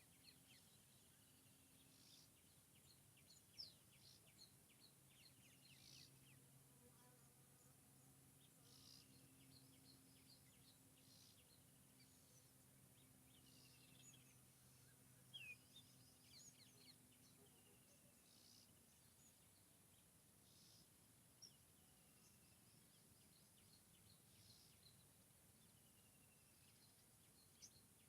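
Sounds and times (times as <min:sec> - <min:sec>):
faint low hum: 0:00.0 - 0:28.0
songbirds chirping and trilling: 0:00.0 - 0:28.0.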